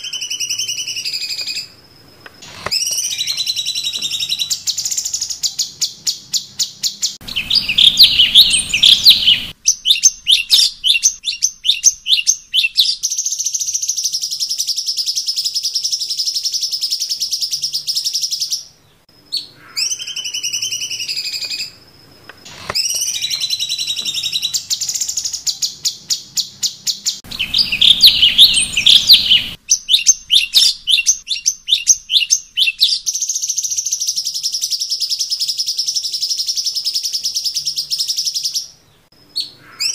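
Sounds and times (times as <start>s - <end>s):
bird chirping and trilling: 0.0s - 1.8s, 2.4s - 21.9s, 22.5s - 39.9s.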